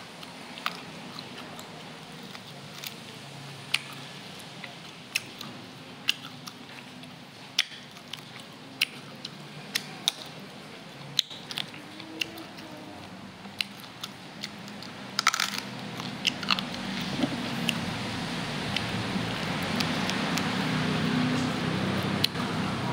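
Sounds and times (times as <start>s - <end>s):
chewing with wet mouth clicks: 0.2s - 12.7s, 13.4s - 17.9s, 18.6s - 20.6s.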